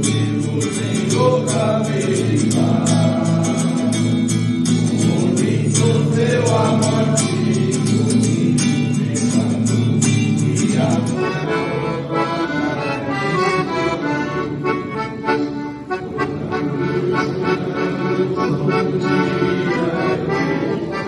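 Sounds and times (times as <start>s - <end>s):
accordion music with steady beat: 0.0s - 21.0s.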